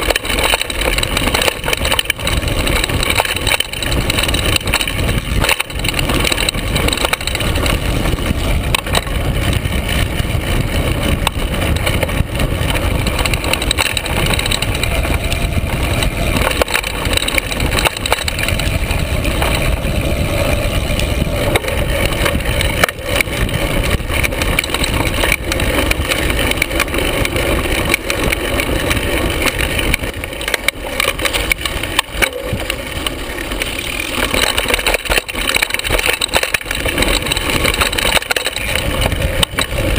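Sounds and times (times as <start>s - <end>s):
bike rattling clicks and knocks: 0.0s - 39.9s
bike tyres rumbling over dirt: 0.0s - 39.9s.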